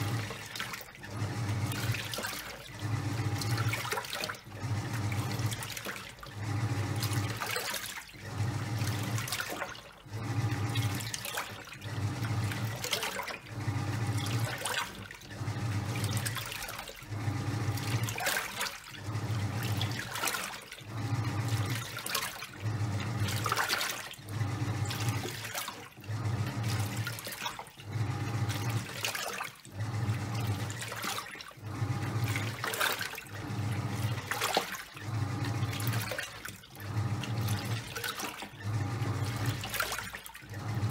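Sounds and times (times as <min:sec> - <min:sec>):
washing machine motor humming: 0:00.0 - 0:40.9
water and towels sloshing: 0:00.0 - 0:40.9.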